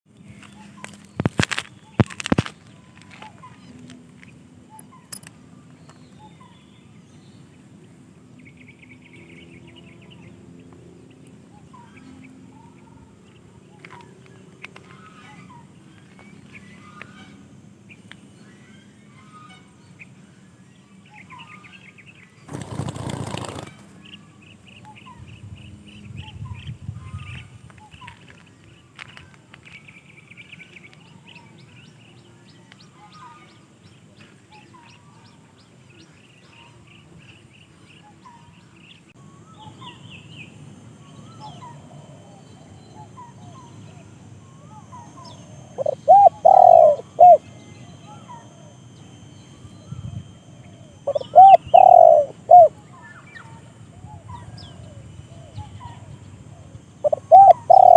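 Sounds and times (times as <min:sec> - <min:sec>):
birds chirping and trilling: 0:00.1 - 0:57.9.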